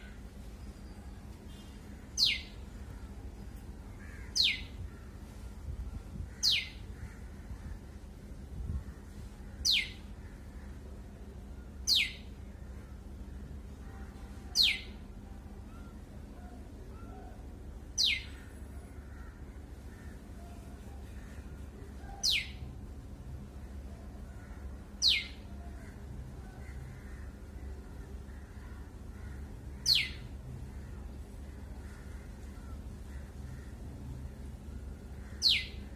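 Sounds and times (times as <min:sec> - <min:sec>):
small bird calling: 0:00.0 - 0:03.3, 0:03.9 - 0:05.4, 0:06.2 - 0:07.9, 0:08.6 - 0:10.8, 0:11.8 - 0:15.0, 0:15.6 - 0:22.8, 0:23.9 - 0:35.9
steady low hum: 0:00.0 - 0:35.9.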